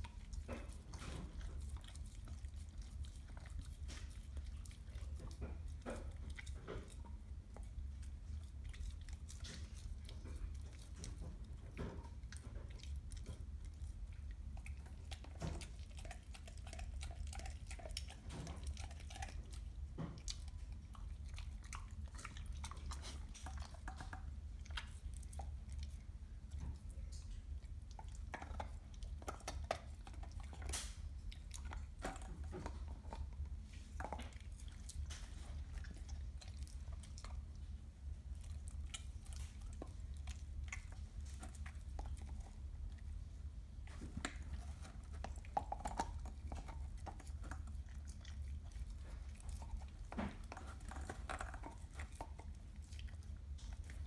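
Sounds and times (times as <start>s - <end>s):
dog gnawing a bone: 0.0s - 54.0s.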